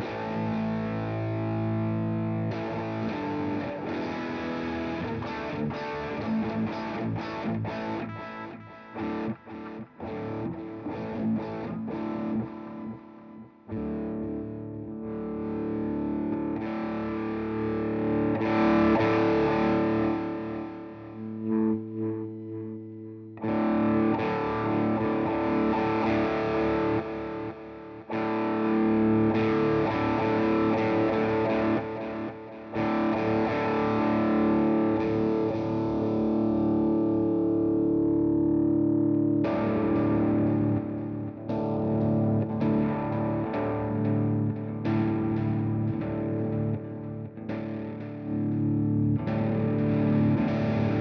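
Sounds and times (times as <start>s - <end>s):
distorted electric guitar chords: 0.0s - 51.0s.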